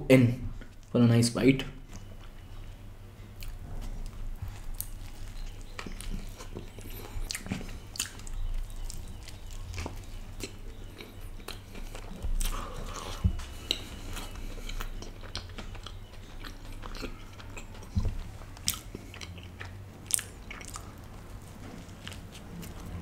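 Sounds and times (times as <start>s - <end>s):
chewing and biting burger: 3.4s - 23.0s.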